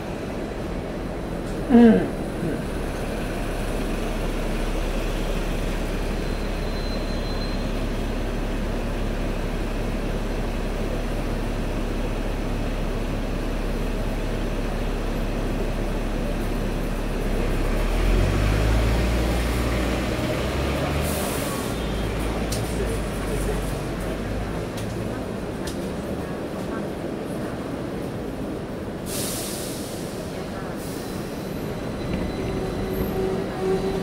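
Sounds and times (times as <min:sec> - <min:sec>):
tram rumble and hum: 0:00.0 - 0:34.0.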